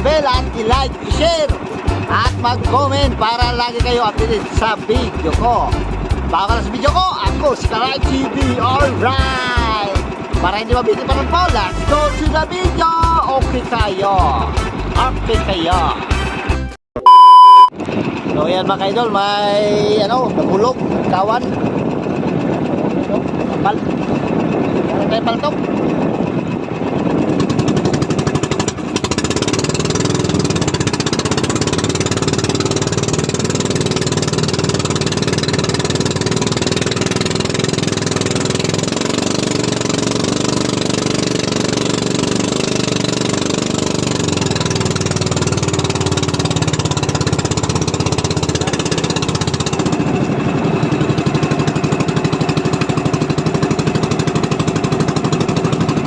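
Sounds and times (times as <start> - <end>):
boat engine hammering: 0.0 - 16.7, 17.8 - 56.0.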